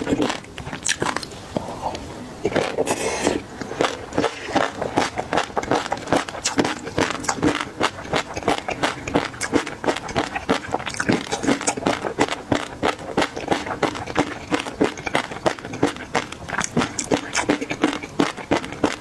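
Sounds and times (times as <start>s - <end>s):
wet chewing mouth clicks: 0.0s - 19.0s.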